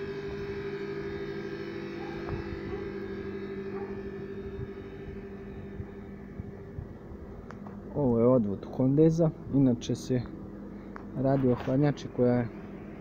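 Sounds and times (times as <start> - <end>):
refrigeration unit humming: 0.0 - 13.0.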